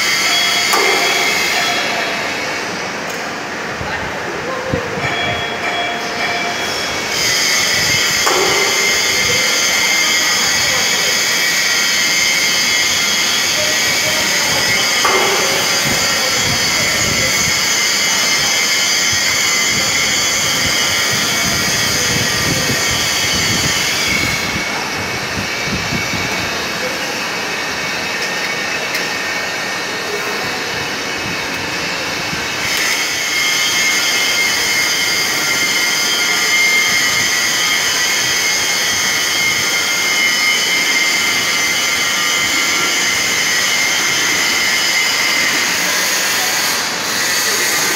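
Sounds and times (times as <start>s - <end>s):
mixer motor whining: 6.6s - 47.9s.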